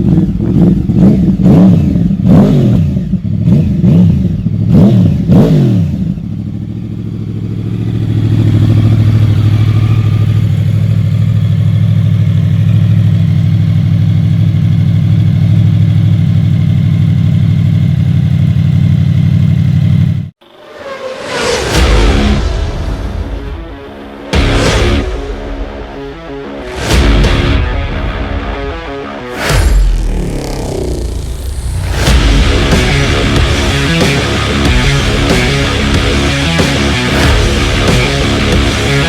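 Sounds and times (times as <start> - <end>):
motorcycle engine revving and idling: 0.0 - 20.4, 23.9 - 39.0.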